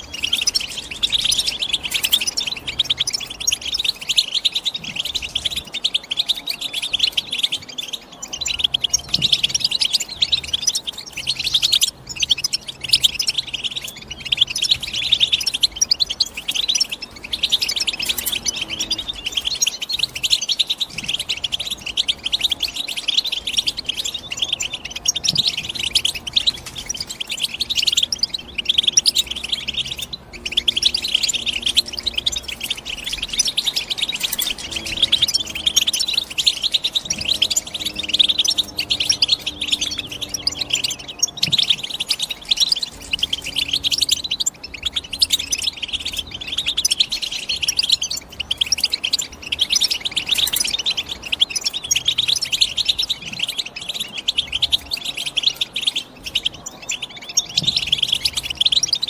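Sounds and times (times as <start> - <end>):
goldfinch twittering song: 0.0 - 59.0.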